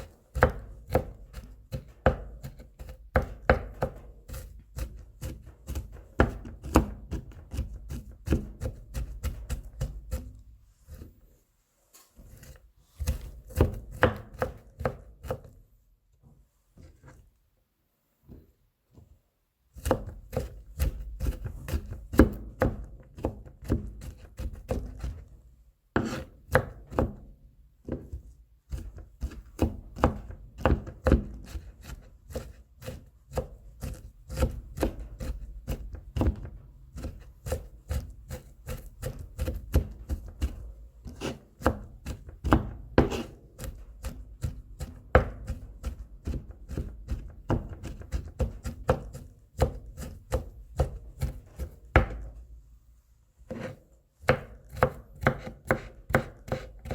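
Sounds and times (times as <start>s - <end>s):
knife chopping on cutting board: 0.3s - 11.1s, 12.3s - 15.6s, 19.8s - 25.2s, 26.0s - 52.4s, 53.5s - 56.9s.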